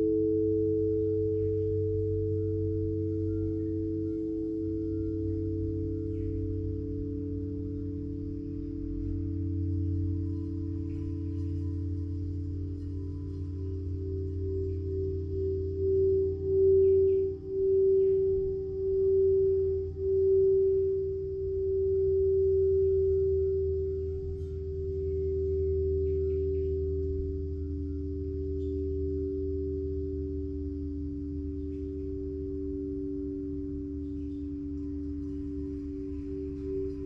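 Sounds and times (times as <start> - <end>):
singing bowl ringing: 0.0 - 37.0.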